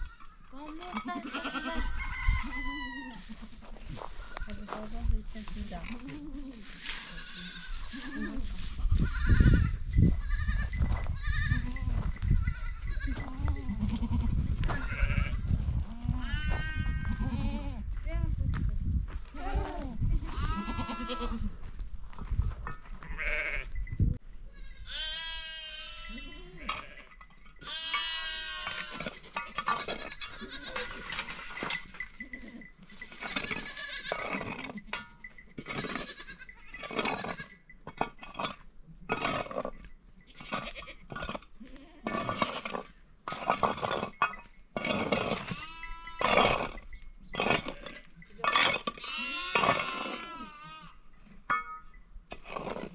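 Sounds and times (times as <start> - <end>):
goats and sheep bleating: 0.0 - 17.9, 19.3 - 21.7, 22.8 - 23.8, 24.5 - 37.7, 39.1 - 44.1, 44.8 - 51.1.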